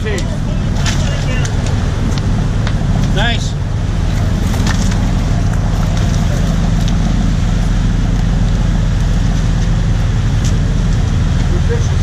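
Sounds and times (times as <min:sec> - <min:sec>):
boat engines droning: 0:00.0 - 0:12.0
churning wake water: 0:00.0 - 0:12.0.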